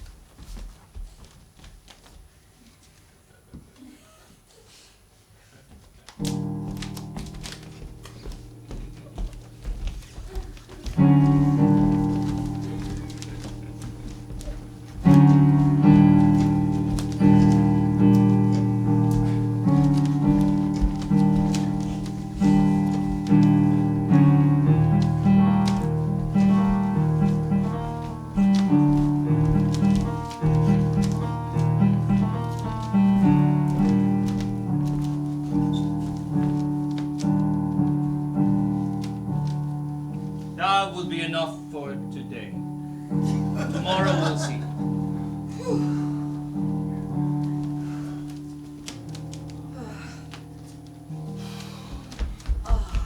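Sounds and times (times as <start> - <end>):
piano chords: 6.2 - 53.0.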